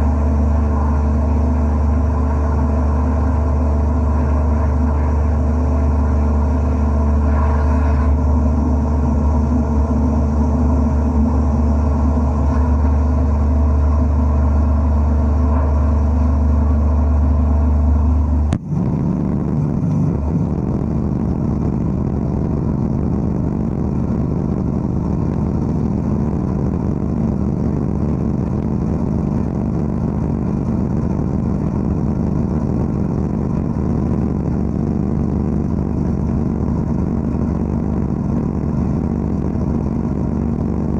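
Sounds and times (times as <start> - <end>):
machine hum: 0.0 - 40.9
rough rushing noise: 0.0 - 40.9.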